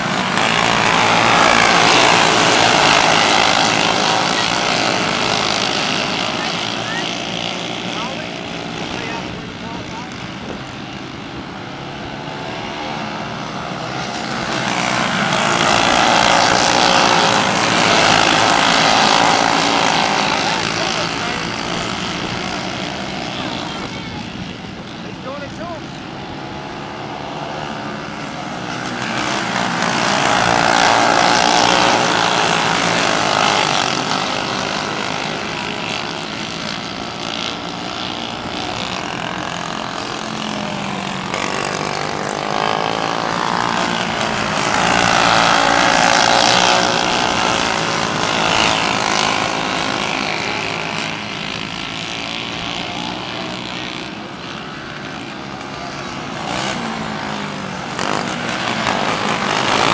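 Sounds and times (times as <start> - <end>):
racing kart engines buzzing: 0.0 - 59.9.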